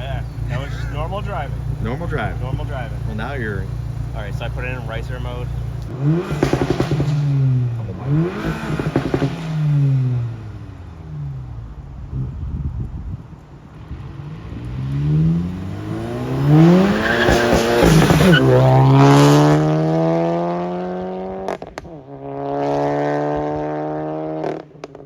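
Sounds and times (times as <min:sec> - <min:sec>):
car engine and exhaust accelerating: 0:00.0 - 0:25.0.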